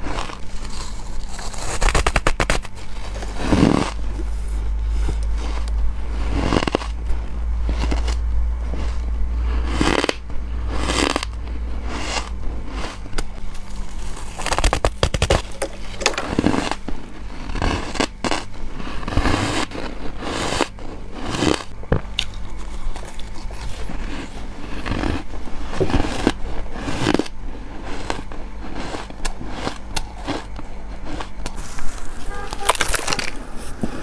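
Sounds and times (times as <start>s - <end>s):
crunching bites into freezer frost: 0.0s - 34.0s.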